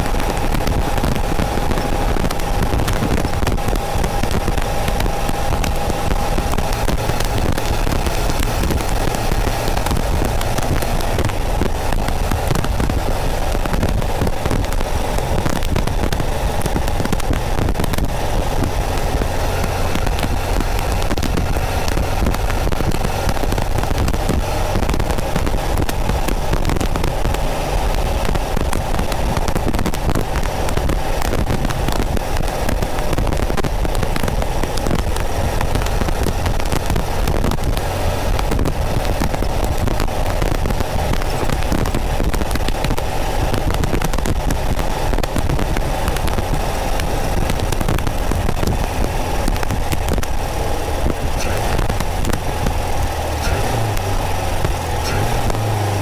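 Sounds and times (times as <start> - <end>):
car engine running: 0.0 - 56.0
static crackle: 0.0 - 56.0
wind noise: 0.0 - 56.0.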